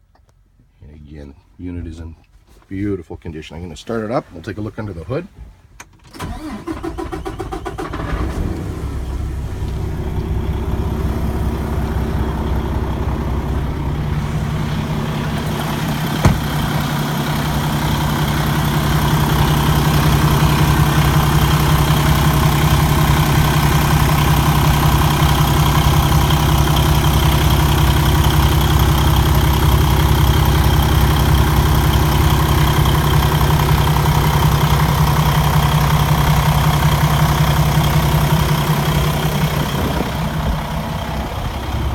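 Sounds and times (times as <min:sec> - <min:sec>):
diesel engine starting and idling: 0:06.0 - 0:41.9.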